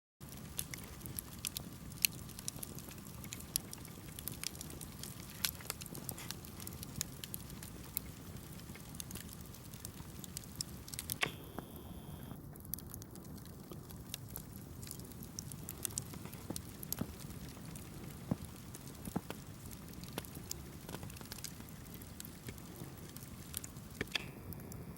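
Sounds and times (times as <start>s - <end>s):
campfire crackling: 0.2s - 24.9s
fire pops and snaps: 0.2s - 24.9s.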